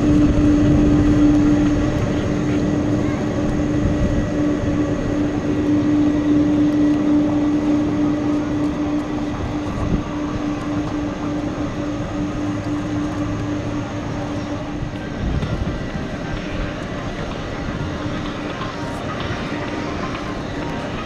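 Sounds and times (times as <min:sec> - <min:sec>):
jet engines taxiing drone: 0:00.0 - 0:21.0.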